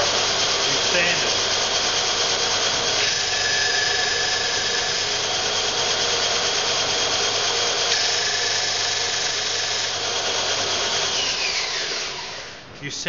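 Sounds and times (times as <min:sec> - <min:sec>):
high sanding whine: 0:00.0 - 0:12.4
belt and disc sander running: 0:00.0 - 0:12.6.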